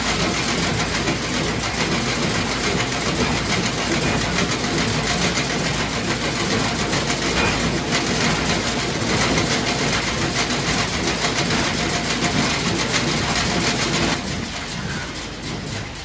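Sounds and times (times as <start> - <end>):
baler mechanical clatter: 0.0 - 16.0.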